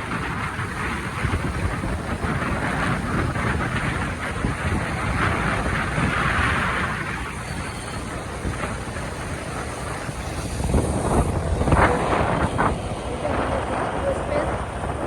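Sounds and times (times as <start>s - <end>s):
road traffic: 0.0s - 15.0s
wind rumbling on microphone: 0.0s - 15.0s.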